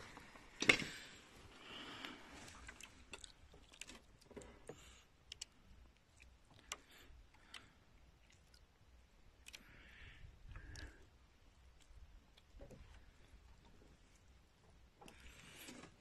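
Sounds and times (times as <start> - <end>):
faint clicks and light knocks: 2.0 - 11.0, 11.6 - 16.0.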